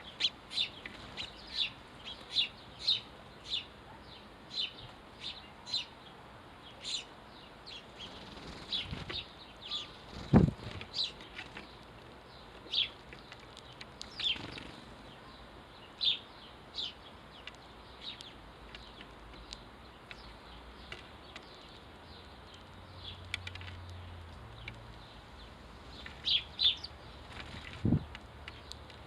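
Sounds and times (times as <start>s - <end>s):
sparrows chirping: 0.0s - 29.0s.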